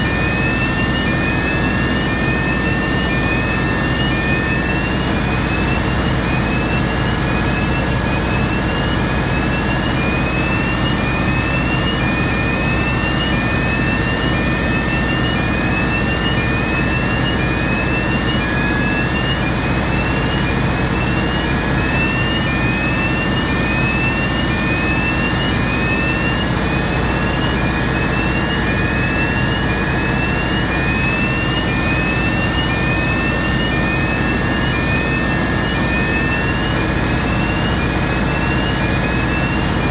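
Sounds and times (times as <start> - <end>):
high whine tones: 0.0 - 39.9.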